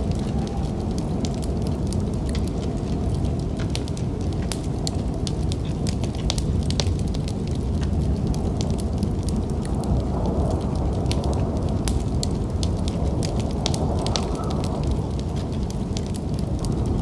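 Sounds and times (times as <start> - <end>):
low rumble of storm wind: 0.0 - 17.0
wood fire crackling and popping: 0.0 - 17.0.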